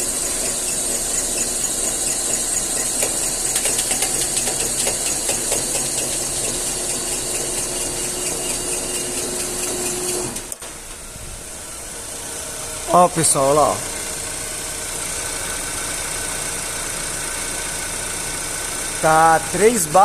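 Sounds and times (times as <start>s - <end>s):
car engine idling: 0.0s - 20.0s
car lift humming and hissing: 0.0s - 20.0s.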